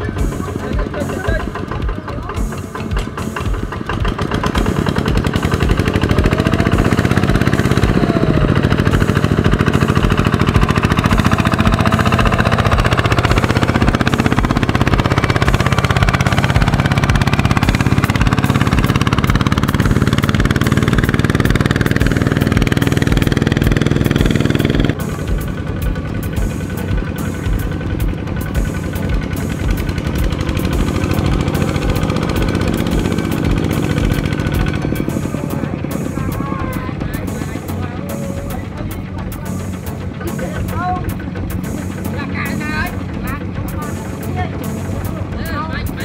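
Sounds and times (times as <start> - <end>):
diesel tractor engine running: 0.0 - 46.0.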